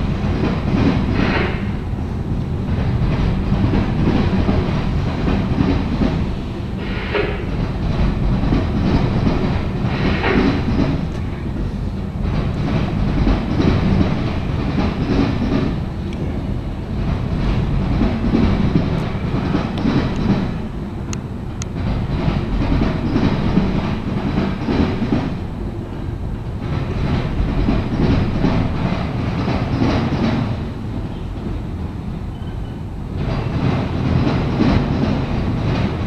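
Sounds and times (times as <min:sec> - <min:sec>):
freight cars clattering over rails: 0:00.0 - 0:36.0.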